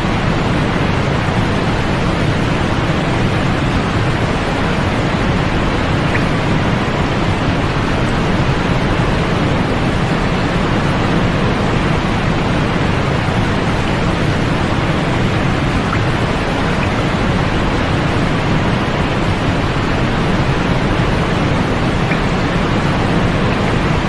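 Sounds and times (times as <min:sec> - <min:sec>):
white noise hiss with deep rumble: 0:00.0 - 0:24.0.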